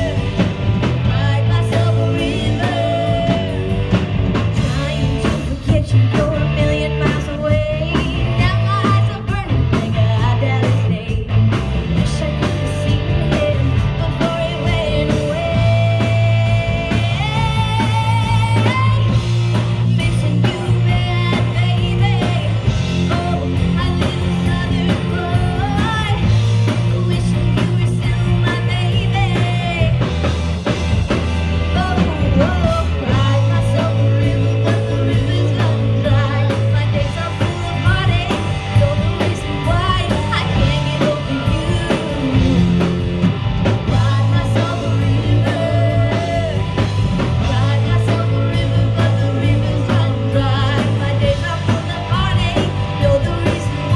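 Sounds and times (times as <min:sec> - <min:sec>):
bass guitar: 0:00.0 - 0:53.9
drum kit: 0:00.0 - 0:53.9
electric guitars: 0:00.0 - 0:53.9
woman singing lead: 0:00.0 - 0:53.9.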